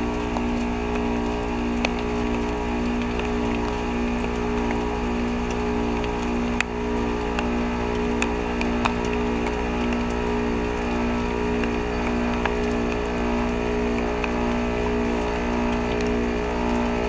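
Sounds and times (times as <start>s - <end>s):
heat pump compressor hum: 0.0s - 17.0s
water dripping: 0.0s - 17.0s.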